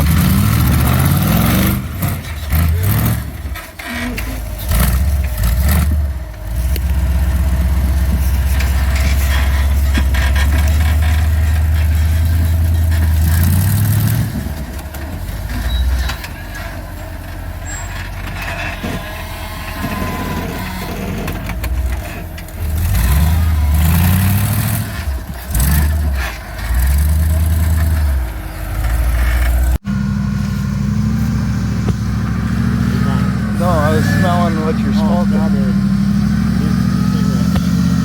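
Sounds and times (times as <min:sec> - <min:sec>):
off-road vehicle engine revving: 0:00.0 - 0:38.0.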